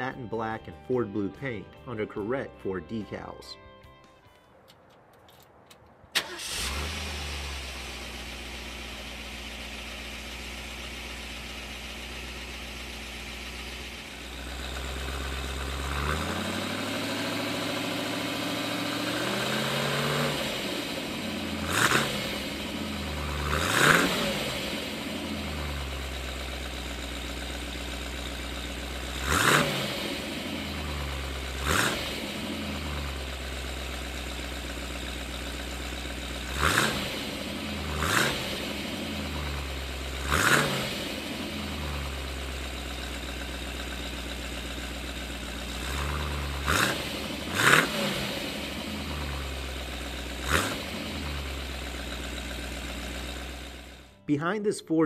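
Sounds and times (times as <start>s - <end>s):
car engine idling and revving: 6.1s - 54.2s.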